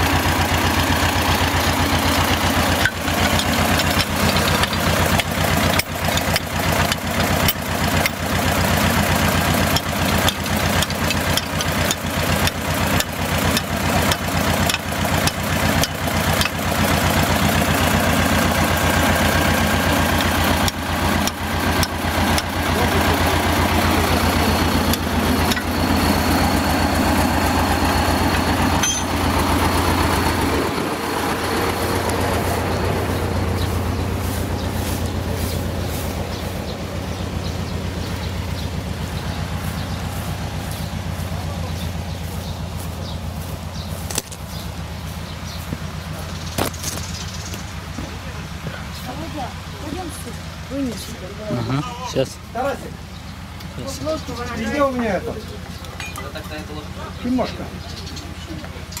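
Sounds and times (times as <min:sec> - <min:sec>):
heavy uneven engine knocking: 0:00.0 - 0:59.0
tractor diesel engine idling: 0:00.0 - 0:59.0.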